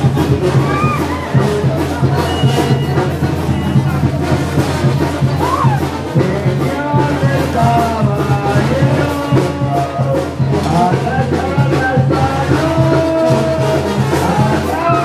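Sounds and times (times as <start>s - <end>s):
brass band playing: 0.0s - 15.0s
steady drum beat: 0.0s - 15.0s.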